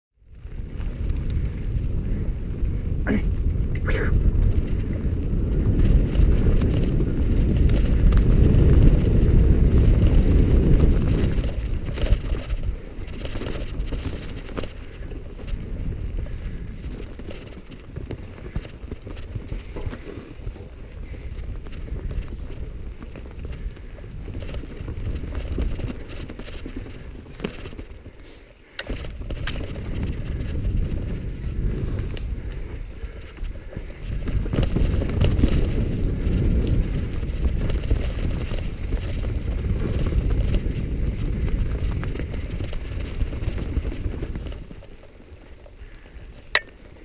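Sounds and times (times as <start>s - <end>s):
bike tyres rolling over dirt: 0.2s - 47.0s
bike frame and chain rattling: 0.3s - 47.0s.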